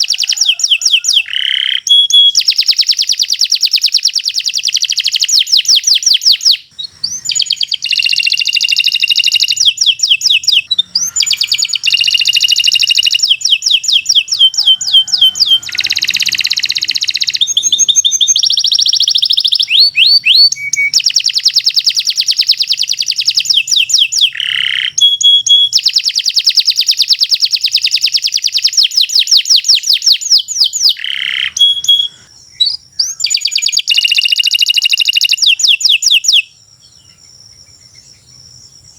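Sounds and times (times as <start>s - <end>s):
canary singing trills and chirps: 0.0s - 38.2s.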